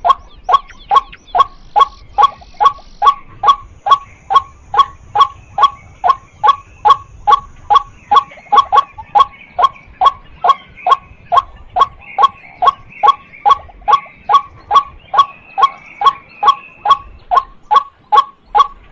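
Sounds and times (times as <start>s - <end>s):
faint high chattering: 0.0s - 18.9s
waterhen calling kwak notes: 0.0s - 18.9s.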